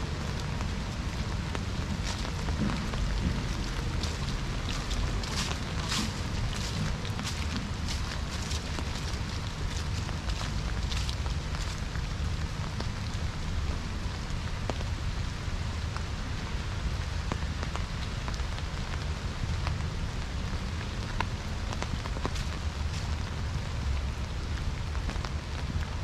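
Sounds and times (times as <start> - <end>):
light rain hissing: 0.0 - 26.0
low steady rumble: 0.0 - 26.0
raindrops ticking: 0.0 - 26.0.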